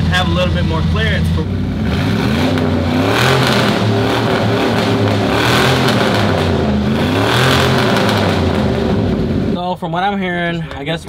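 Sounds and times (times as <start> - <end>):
car engine revving unevenly: 0.0 - 9.6.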